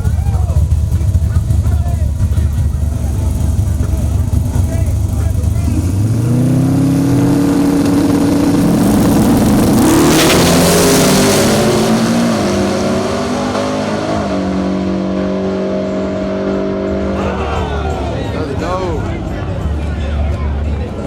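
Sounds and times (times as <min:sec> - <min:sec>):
truck engine passing loudly: 0:00.0 - 0:21.0.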